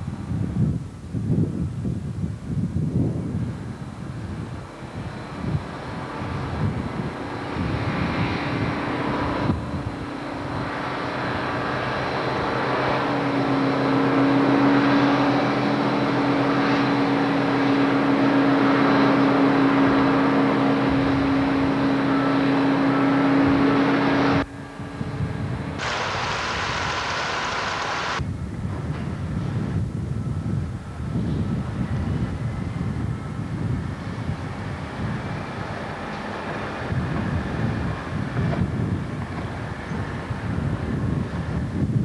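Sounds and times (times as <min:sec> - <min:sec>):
ship engines droning hum: 0:00.0 - 0:28.3, 0:29.5 - 0:42.0
wind and sea rushing: 0:00.0 - 0:42.0.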